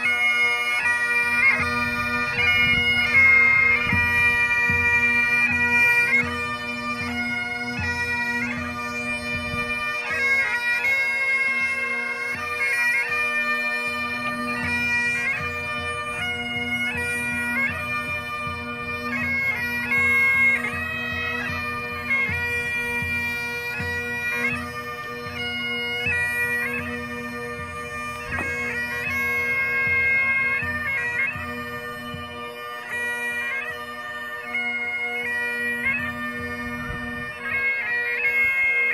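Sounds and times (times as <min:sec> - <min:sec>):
bagpipes playing a tune: 0:00.0 - 0:38.9.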